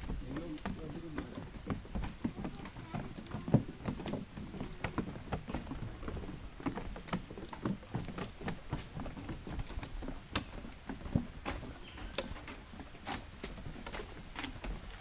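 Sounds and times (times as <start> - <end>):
footsteps of people walking: 0.0 - 15.0.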